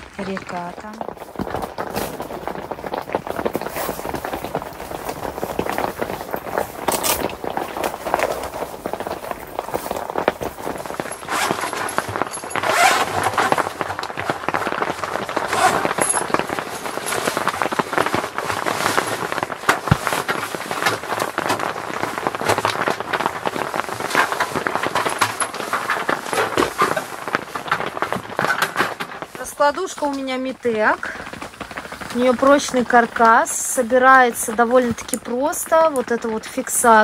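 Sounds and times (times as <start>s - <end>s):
camping gear crackling and rustling: 0.0s - 37.0s.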